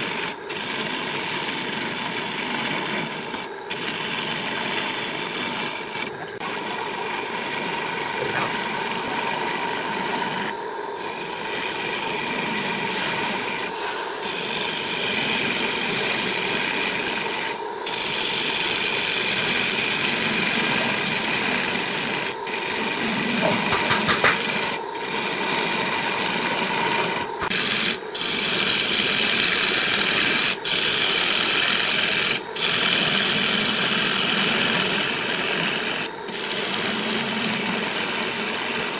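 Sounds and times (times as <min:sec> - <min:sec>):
lathe gouge cutting wood: 0:00.0 - 0:38.9.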